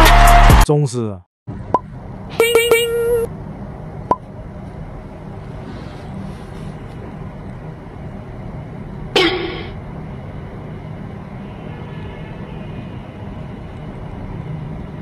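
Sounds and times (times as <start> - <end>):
low background hum: 1.5 - 15.0.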